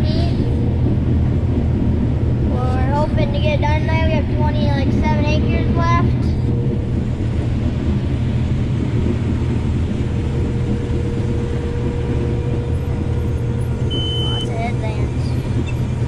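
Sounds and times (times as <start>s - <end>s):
combine harvester engine drone: 0.0s - 16.0s
faint steady whine: 0.0s - 16.0s.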